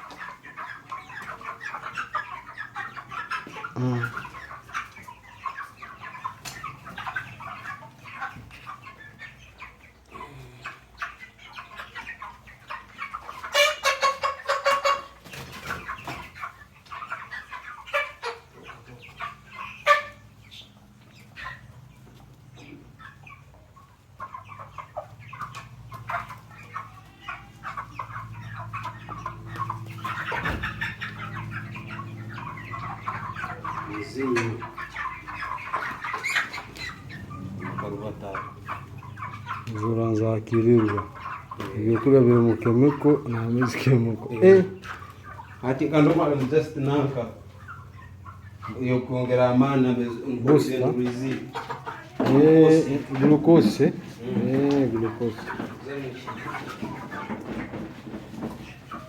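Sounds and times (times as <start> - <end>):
chickens clucking and calling: 0.0 - 59.0.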